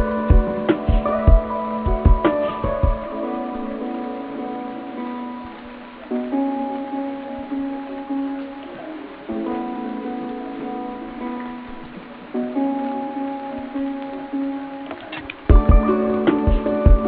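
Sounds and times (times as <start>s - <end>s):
soft instrumental music: 0.0s - 17.0s.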